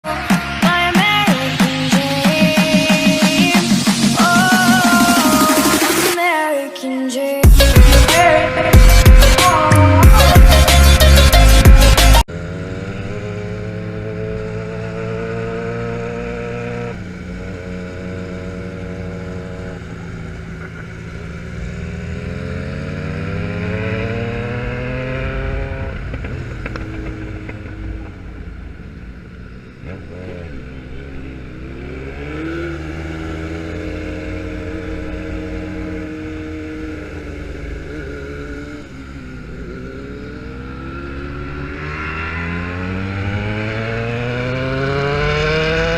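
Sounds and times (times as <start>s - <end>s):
motorcycle engine shifting gears: 7.4s - 45.9s.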